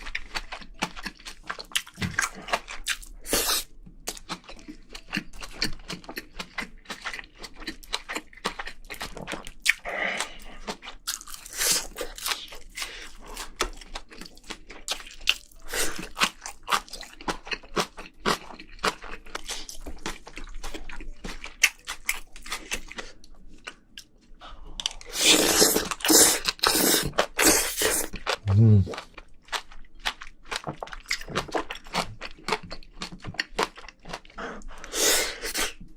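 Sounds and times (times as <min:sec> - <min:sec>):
person chewing and crunching food: 0:00.0 - 0:35.9.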